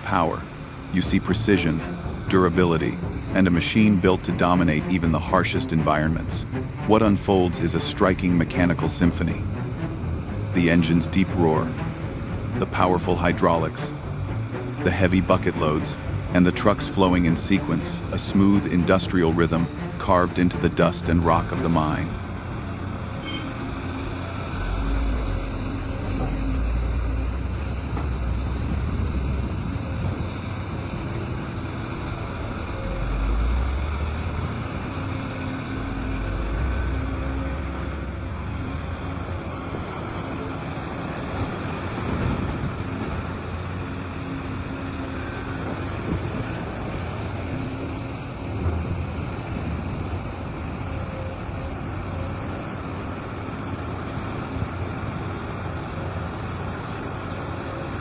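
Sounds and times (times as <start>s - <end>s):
excavator diesel engine rumble: 0.0s - 58.0s.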